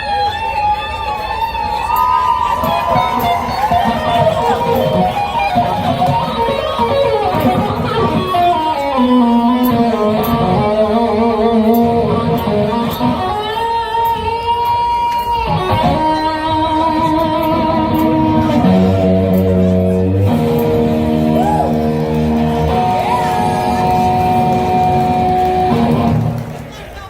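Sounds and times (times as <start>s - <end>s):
live band with electric guitar: 0.0s - 27.0s.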